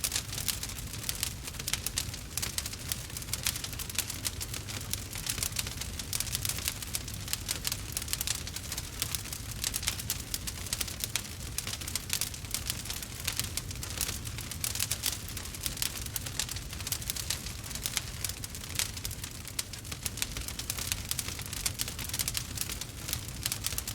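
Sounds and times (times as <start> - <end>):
burning wood crackling and popping: 0.0 - 23.9.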